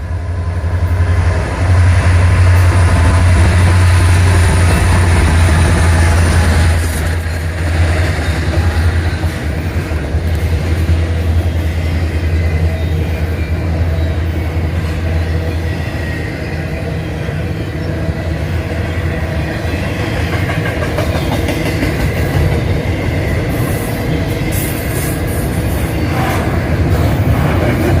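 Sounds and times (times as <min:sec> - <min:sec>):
diesel locomotive drone: 0:00.0 - 0:28.0
train wheels clattering on rails: 0:00.8 - 0:28.0.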